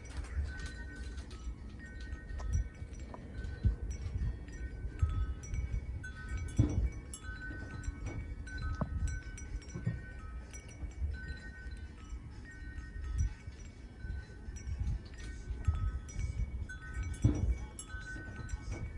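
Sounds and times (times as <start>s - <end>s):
metal wind chimes ringing: 0.0s - 18.9s
wind rumbling on microphone: 0.0s - 18.9s.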